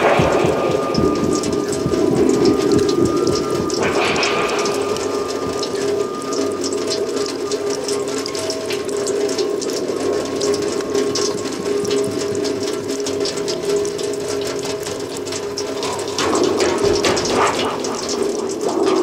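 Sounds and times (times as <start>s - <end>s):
rapid clicking and rattling: 0.0s - 19.0s
steady drone of held tones: 0.0s - 19.0s.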